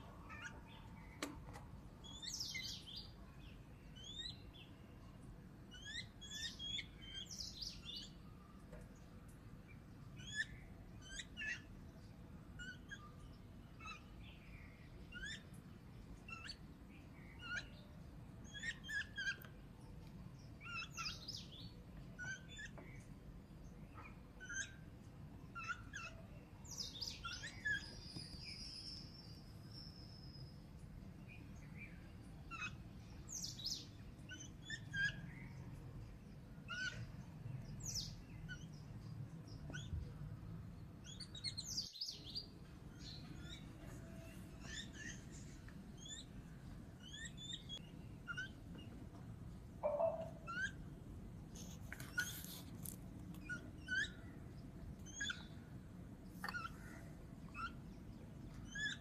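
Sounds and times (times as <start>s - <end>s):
birds chirping: 0.0s - 52.7s, 53.4s - 59.0s.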